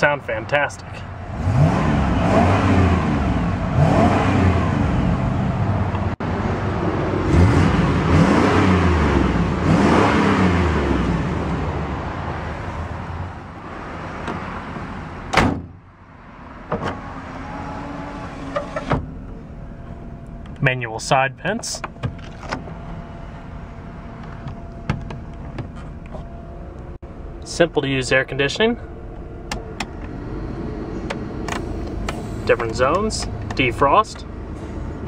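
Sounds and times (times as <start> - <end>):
van engine revving and idling: 0.0 - 35.0.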